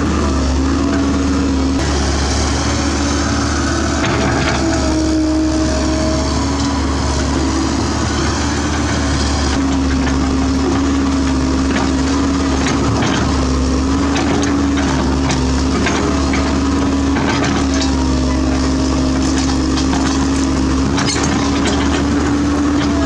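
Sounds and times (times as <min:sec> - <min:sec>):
excavator engine under load: 0:00.0 - 0:23.0.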